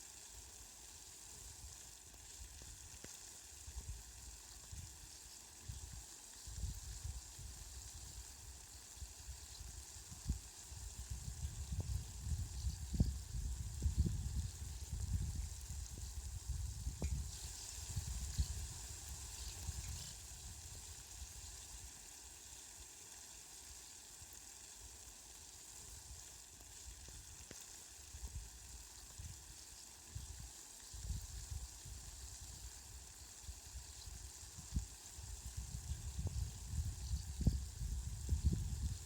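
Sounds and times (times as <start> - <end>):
rain falling with even hiss: 0.0 - 39.0.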